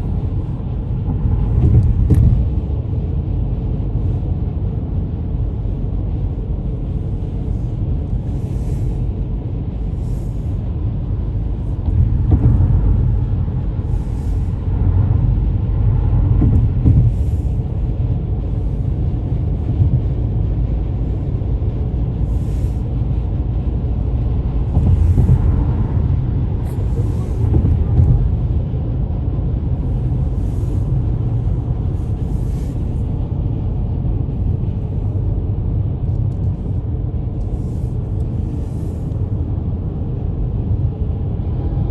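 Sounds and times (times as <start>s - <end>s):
car road noise rumble: 0.0s - 41.9s.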